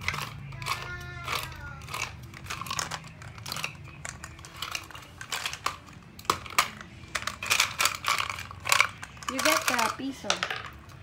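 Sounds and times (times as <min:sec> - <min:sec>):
candy wrappers crinkling: 0:00.0 - 0:10.8
toy gumball machine clicking: 0:00.0 - 0:11.0.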